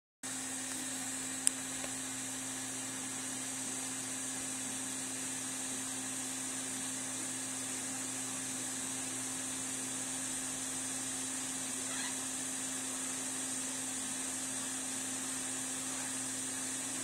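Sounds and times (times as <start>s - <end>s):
room tone hum and hiss: 0.3s - 17.0s.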